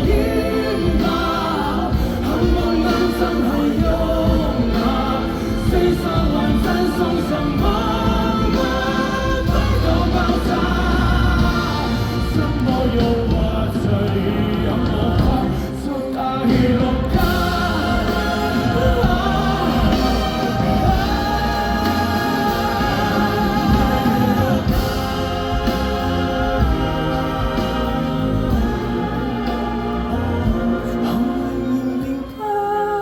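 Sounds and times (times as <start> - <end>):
live band playing: 0.0 - 33.0.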